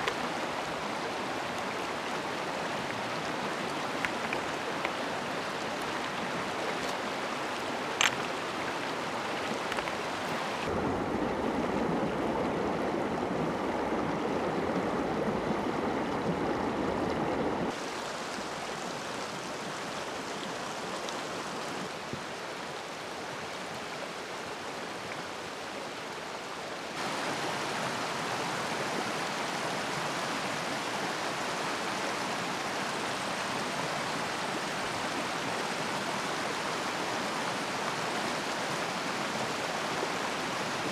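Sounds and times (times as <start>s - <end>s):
rushing stream: 0.0s - 40.9s.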